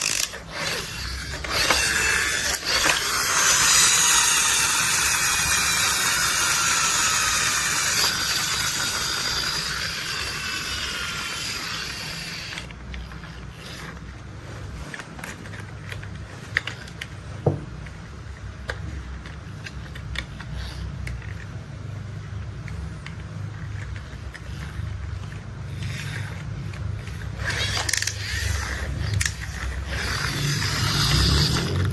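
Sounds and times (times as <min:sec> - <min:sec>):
plastic toy clicks and ratcheting: 0:00.0 - 0:21.7, 0:22.6 - 0:31.9.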